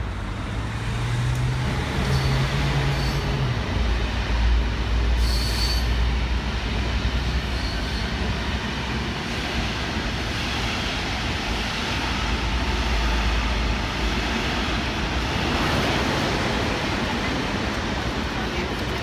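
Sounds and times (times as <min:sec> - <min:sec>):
trains rumbling over tracks: 0:00.0 - 0:19.0.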